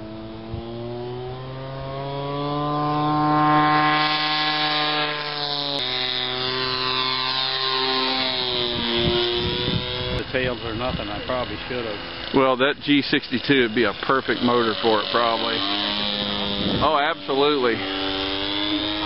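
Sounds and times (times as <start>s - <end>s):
model plane engine running: 0.0s - 19.0s.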